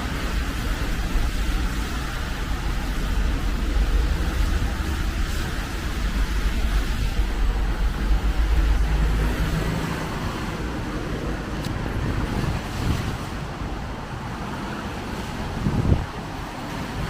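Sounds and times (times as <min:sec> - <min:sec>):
heavy rain: 0:00.0 - 0:17.0
tyres hissing on wet road: 0:00.0 - 0:17.0
wind buffeting microphone: 0:00.0 - 0:17.0.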